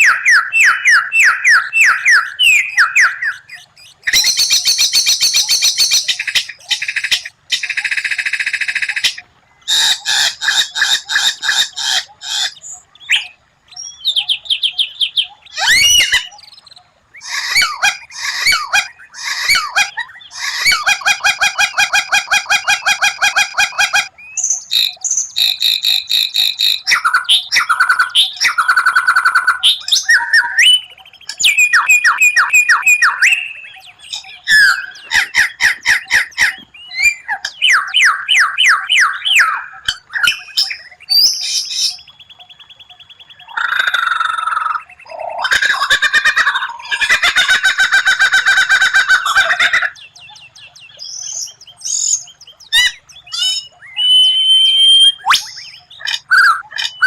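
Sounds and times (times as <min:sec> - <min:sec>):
songbird singing varied song: 0:00.0 - 0:57.0.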